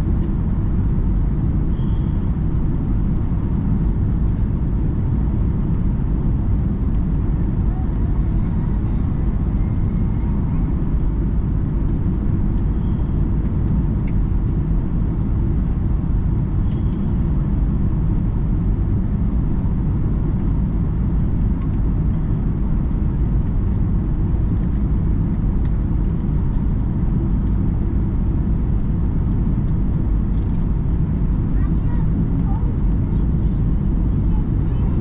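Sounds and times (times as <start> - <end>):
airliner cabin engine rumble: 0.0 - 35.0.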